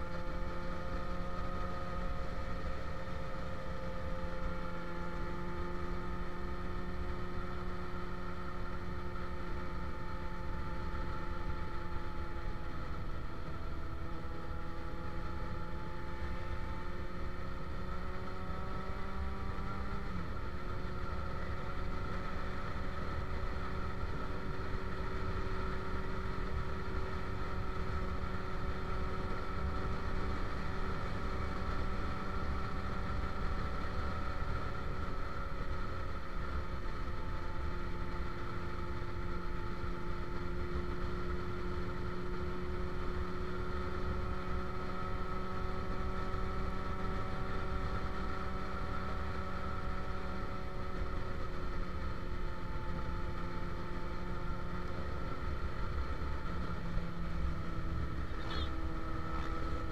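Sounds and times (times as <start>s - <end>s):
motorcycle engine cruising: 0.0s - 59.9s
road rumble: 0.0s - 59.9s
wind: 0.0s - 59.9s.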